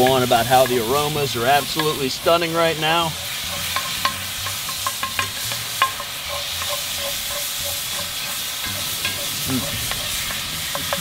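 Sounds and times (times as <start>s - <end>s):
meat sizzling in a skillet: 0.0s - 11.0s
wooden spoon scraping a pan: 0.0s - 11.0s.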